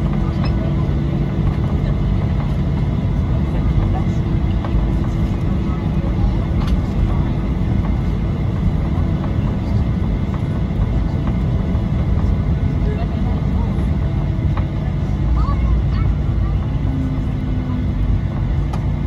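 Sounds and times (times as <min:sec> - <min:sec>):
aircraft cabin engine rumble: 0:00.0 - 0:19.0
faint passenger murmur: 0:00.0 - 0:19.0.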